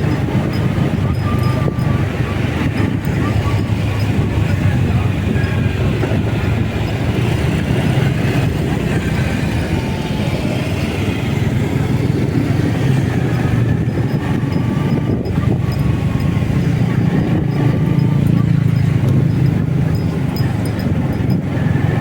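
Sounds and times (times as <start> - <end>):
motorcycle engine rumble: 0.0 - 22.0
wind noise: 0.0 - 22.0.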